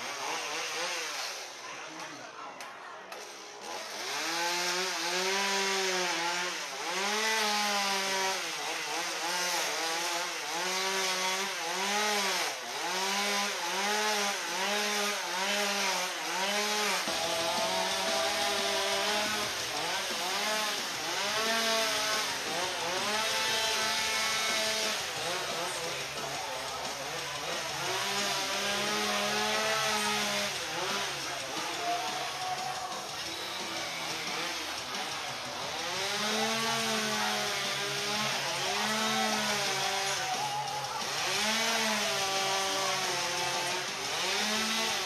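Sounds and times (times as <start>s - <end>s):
chainsaw cutting ice: 0.0s - 2.2s, 3.1s - 45.0s.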